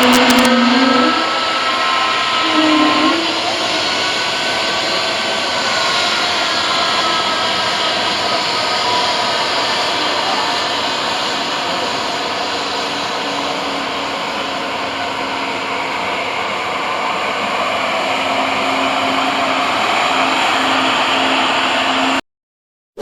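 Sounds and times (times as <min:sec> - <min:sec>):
jet engines running: 0:00.0 - 0:22.2.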